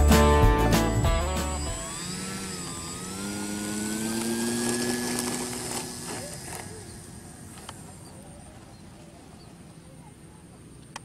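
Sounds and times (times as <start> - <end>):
model plane electric motor whine: 0.2 - 9.6.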